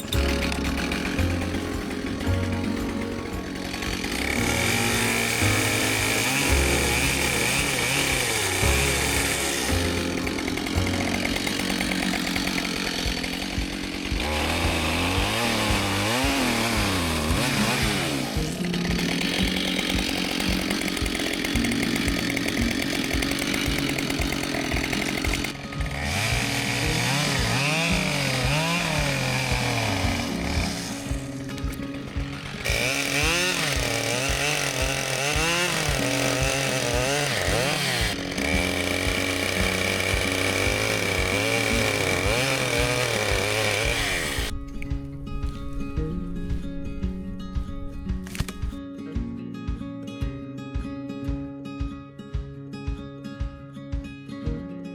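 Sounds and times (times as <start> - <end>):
chainsaw cutting logs: 0.0 - 46.6, 48.1 - 48.8
background music: 0.0 - 54.9.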